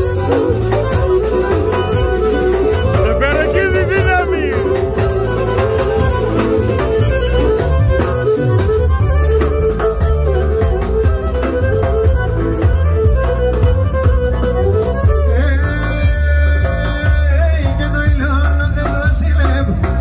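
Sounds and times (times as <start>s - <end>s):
bowed string melody: 0.0s - 17.6s
steady bass and drum beat: 0.0s - 20.0s.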